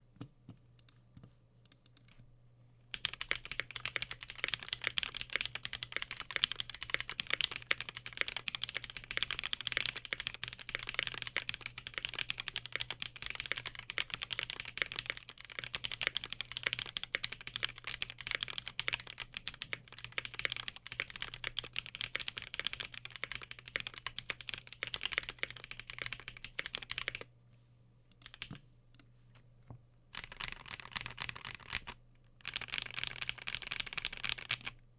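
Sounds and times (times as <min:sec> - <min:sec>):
fast typing on mechanical keyboard: 0:02.9 - 0:27.2, 0:28.2 - 0:28.5, 0:30.2 - 0:34.8.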